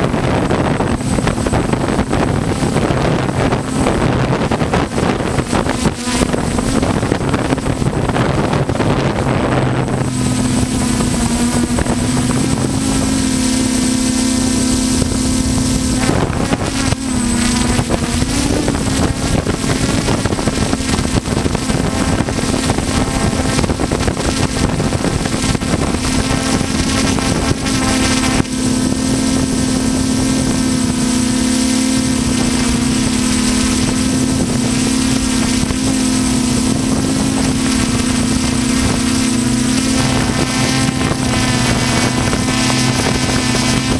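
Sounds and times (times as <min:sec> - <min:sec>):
drone motors humming: 0:00.0 - 0:43.9
wind noise on microphone: 0:00.0 - 0:43.9.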